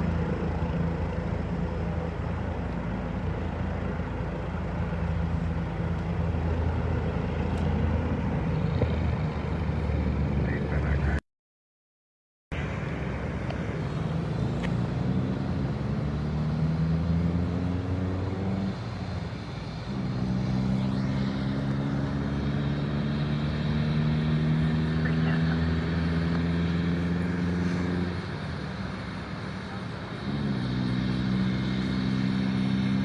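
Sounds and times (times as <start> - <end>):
engine drone: 0.0 - 11.2, 12.5 - 33.0.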